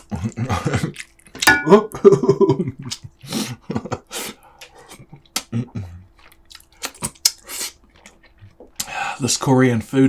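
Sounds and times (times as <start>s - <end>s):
man chewing food: 0.0s - 2.1s, 2.8s - 9.0s.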